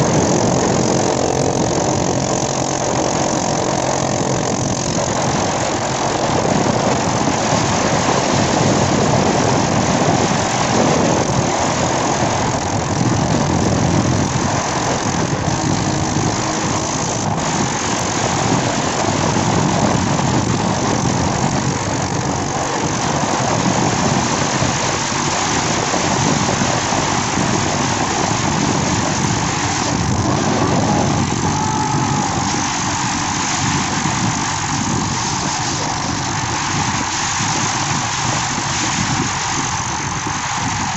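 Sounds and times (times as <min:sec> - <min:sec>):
dirt bike engine running: 0:00.0 - 0:40.9
wind rushing over microphone: 0:00.0 - 0:40.9.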